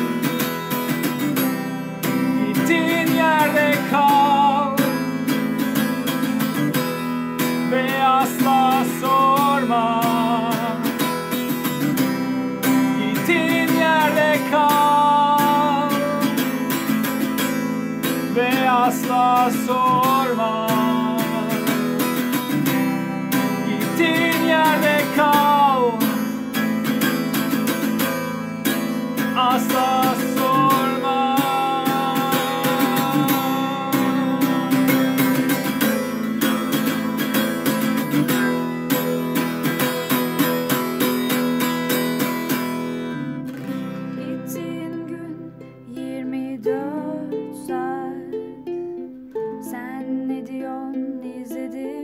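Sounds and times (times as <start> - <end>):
acoustic guitar strumming: 0.0 - 49.8
sliding melody line: 0.1 - 42.9.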